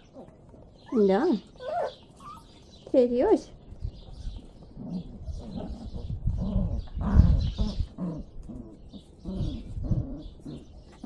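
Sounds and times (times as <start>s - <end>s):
puppies whimpering: 0.0s - 2.8s, 4.2s - 11.0s.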